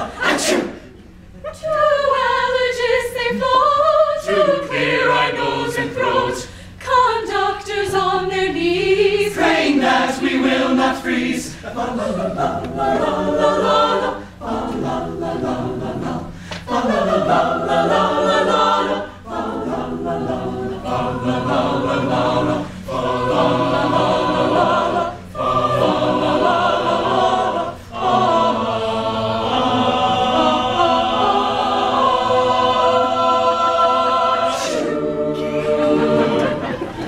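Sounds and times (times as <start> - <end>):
choir singing in close harmony: 0.0 - 0.9, 1.5 - 37.0.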